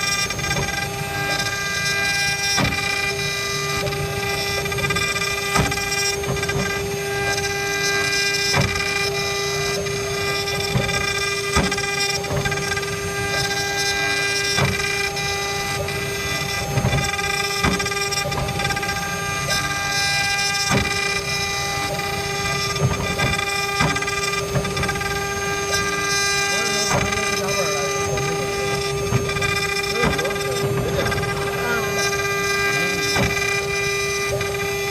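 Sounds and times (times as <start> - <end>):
cnc router spindle whine: 0.0 - 34.9.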